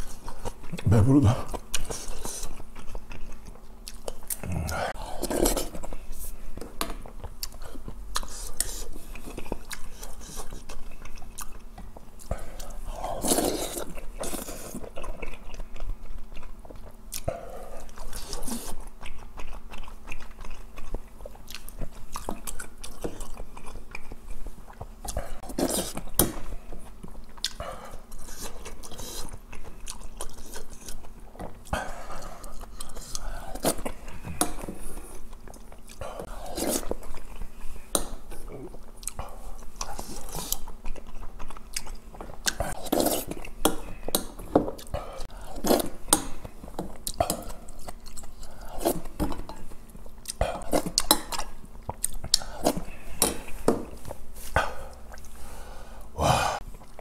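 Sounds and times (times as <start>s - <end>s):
wet chewing: 0.0s - 55.4s.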